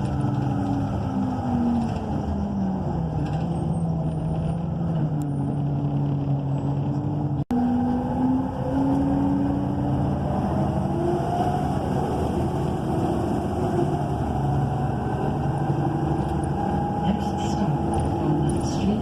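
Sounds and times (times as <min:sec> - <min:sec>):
bus engine accelerating: 0:00.0 - 0:19.0.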